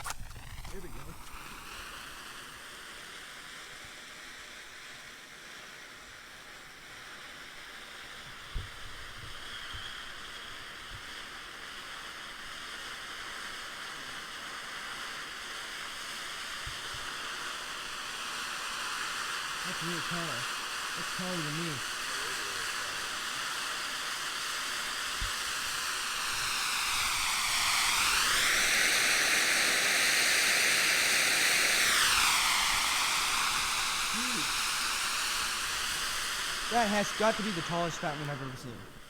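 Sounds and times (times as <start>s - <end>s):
firework fountain hissing: 0.0s - 39.0s.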